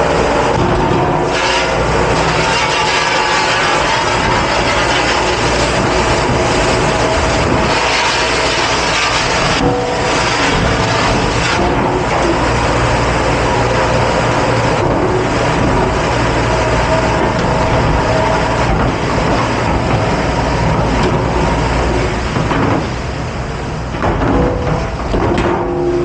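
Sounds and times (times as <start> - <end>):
rush of spraying water: 0.0 - 23.9
low motor hum: 0.0 - 26.0.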